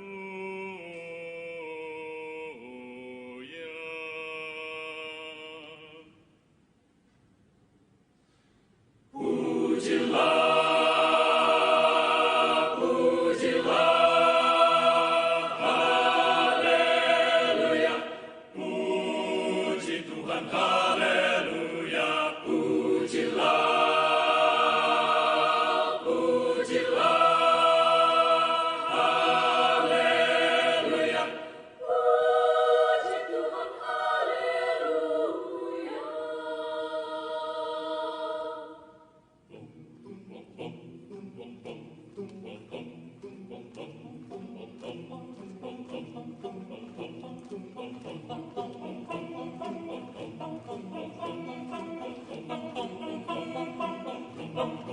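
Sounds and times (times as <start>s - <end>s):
choir singing in harmony: 0.0s - 6.2s, 9.1s - 54.9s.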